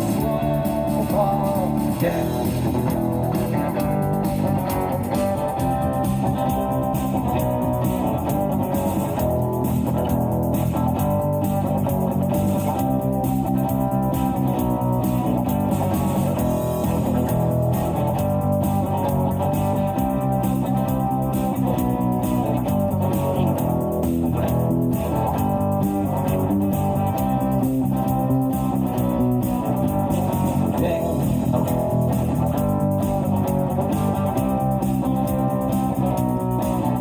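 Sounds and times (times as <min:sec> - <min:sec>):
live rock band instrumental: 0:00.0 - 0:37.0.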